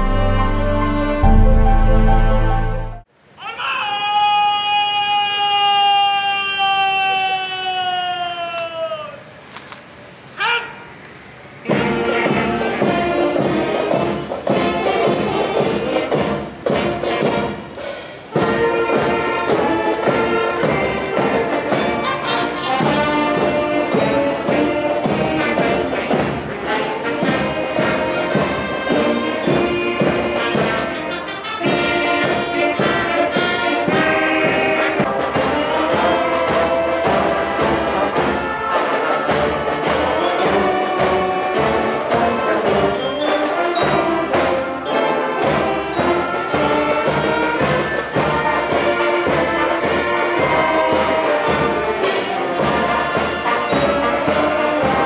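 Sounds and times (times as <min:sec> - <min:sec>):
brass music with steady beat: 0:00.0 - 0:03.1, 0:11.6 - 0:55.0.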